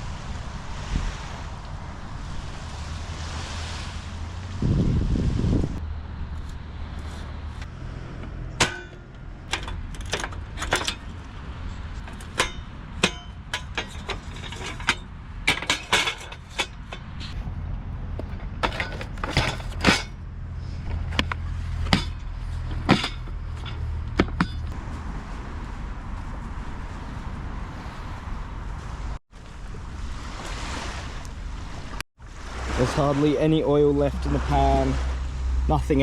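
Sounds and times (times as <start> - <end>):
steady low rumble: 0.0 - 30.3.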